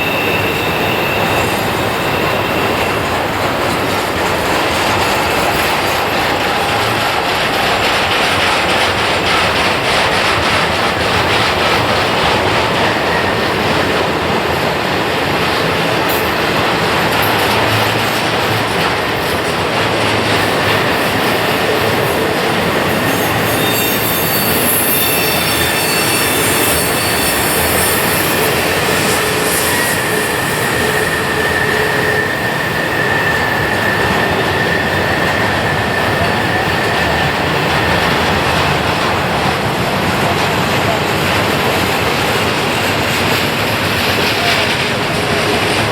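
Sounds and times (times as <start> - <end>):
freight cars rolling on rails: 0.0 - 45.9
wheel flanges squealing on rail: 0.0 - 45.9.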